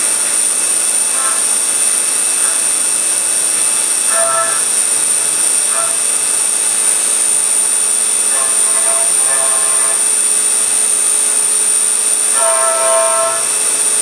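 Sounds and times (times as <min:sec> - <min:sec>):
milling machine spindle whine: 0:00.0 - 0:14.0
pitched ringing from cutting: 0:00.0 - 0:14.0.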